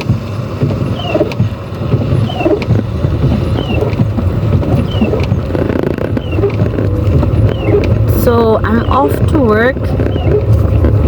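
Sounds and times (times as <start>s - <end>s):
car driving rumble: 0.0s - 11.0s
heavy rain: 0.0s - 11.0s
windscreen wipers squeaking: 0.0s - 11.0s.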